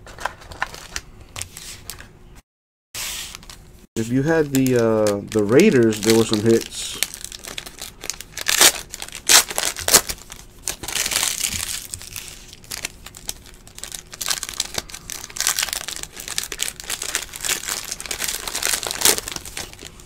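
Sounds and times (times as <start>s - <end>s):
foil wrapper crinkling and tearing: 0.0s - 2.0s, 3.2s - 20.0s.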